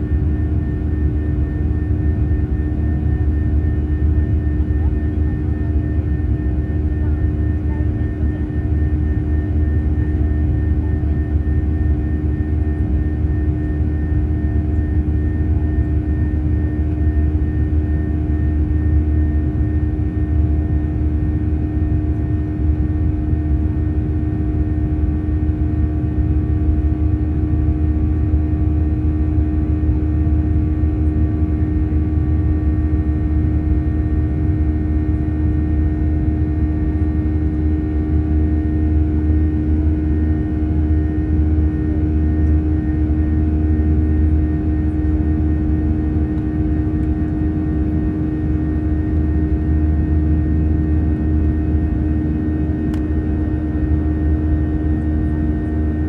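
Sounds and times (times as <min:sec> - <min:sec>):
steady hum: 0:00.0 - 0:21.2, 0:24.9 - 0:56.0
jet engine cabin rumble: 0:00.0 - 0:56.0.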